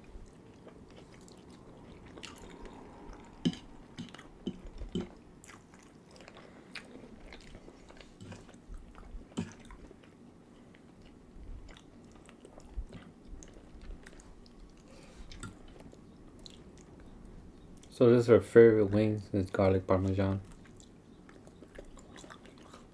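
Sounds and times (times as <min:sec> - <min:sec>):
soft chewing and biting: 0:00.0 - 0:18.0, 0:18.9 - 0:22.9.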